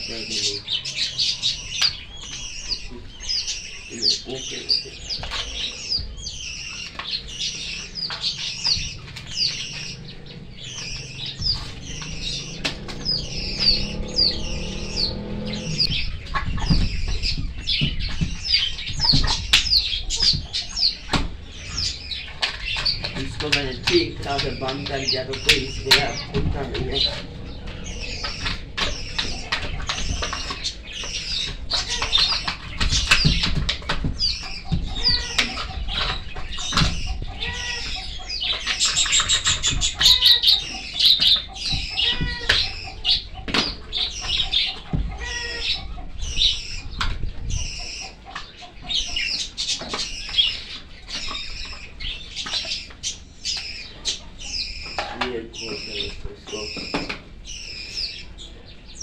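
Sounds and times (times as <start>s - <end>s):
caged birds chirping: 0.0s - 59.0s.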